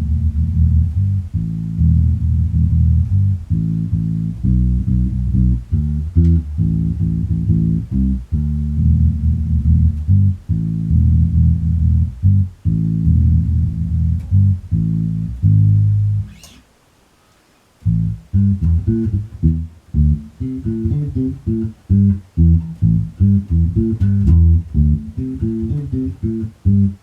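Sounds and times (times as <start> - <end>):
bass guitar riff: 0.0 - 16.6, 17.8 - 27.0.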